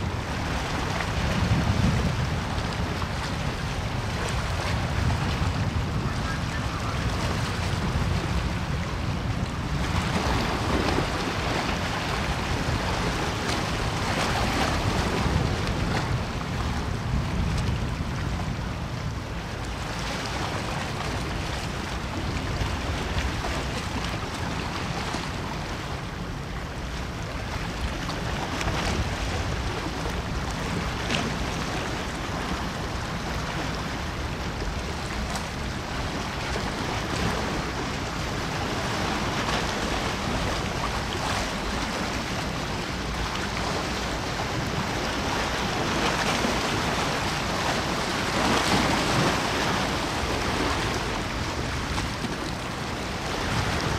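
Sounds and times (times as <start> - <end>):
wind and water rushing: 0.0 - 53.9.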